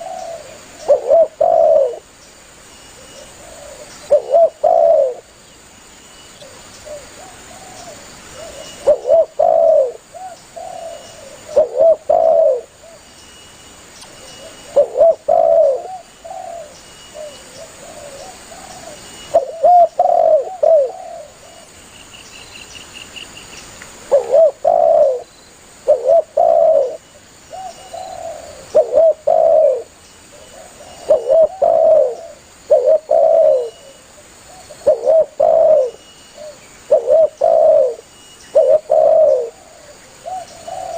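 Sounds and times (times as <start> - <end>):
dove cooing: 0.0 - 2.1, 3.0 - 5.3, 6.4 - 13.0, 14.2 - 21.7, 24.1 - 40.9.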